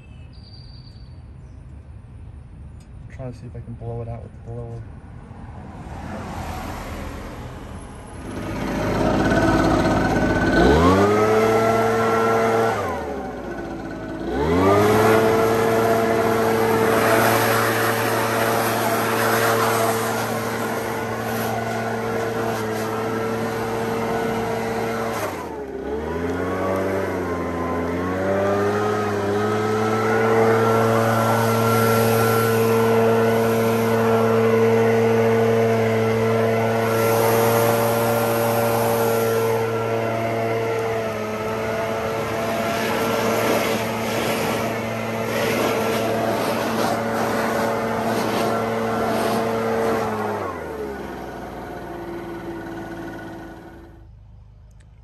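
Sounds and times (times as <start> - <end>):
leaf blower running: 8.1 - 54.2.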